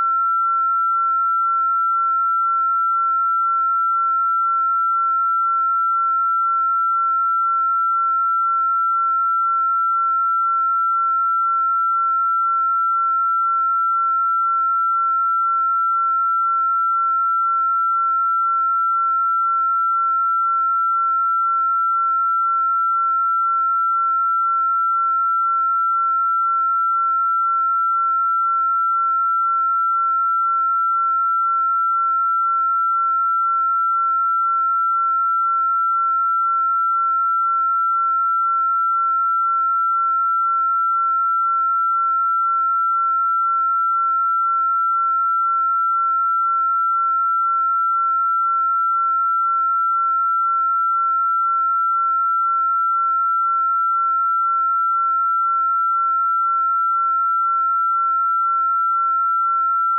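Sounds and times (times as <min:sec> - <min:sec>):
high-pitched sine-wave tone: 0:00.0 - 0:59.9.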